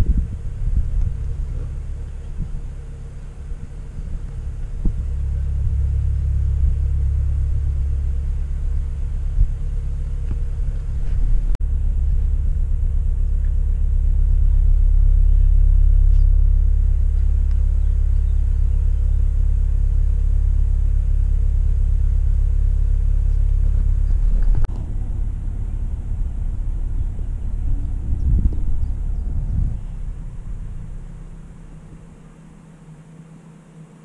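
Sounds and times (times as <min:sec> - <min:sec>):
diesel boat engine rumbling: 0:00.0 - 0:34.0
faint steady hum: 0:00.0 - 0:34.0.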